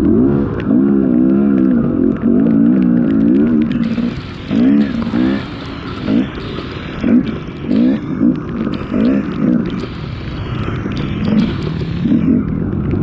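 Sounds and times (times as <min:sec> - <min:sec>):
dirt bike engine revving: 0:00.0 - 0:12.8.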